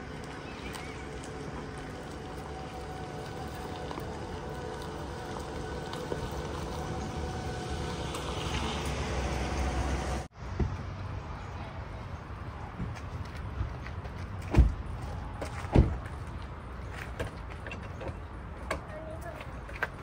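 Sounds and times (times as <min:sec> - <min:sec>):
tyres rolling on gravel: 0:00.0 - 0:10.3, 0:12.8 - 0:20.0
low engine rumble: 0:00.0 - 0:20.0.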